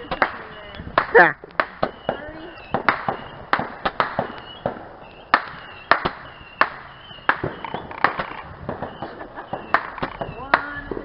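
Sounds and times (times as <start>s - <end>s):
roman candle firing pops: 0.0s - 11.0s.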